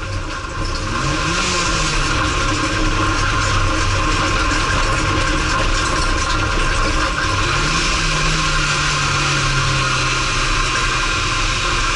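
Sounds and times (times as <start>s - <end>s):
race car engine running: 0.0s - 11.9s.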